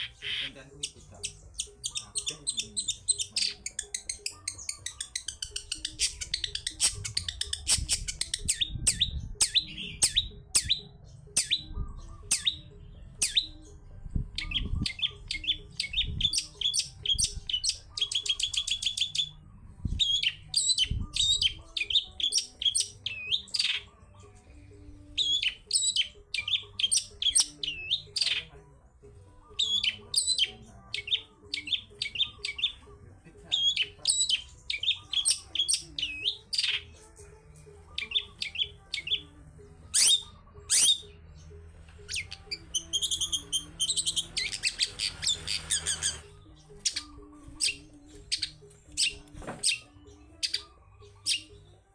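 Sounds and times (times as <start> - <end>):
bird singing chirps and trills: 0.0 - 51.9.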